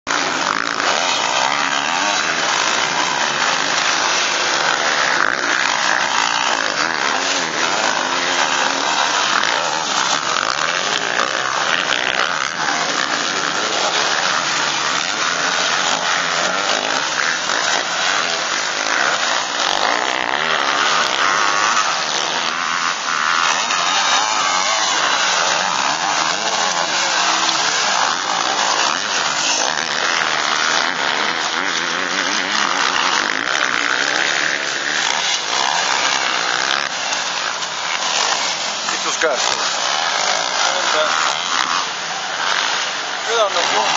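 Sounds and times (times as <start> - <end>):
motocross bike engines revving: 0.0 - 43.9.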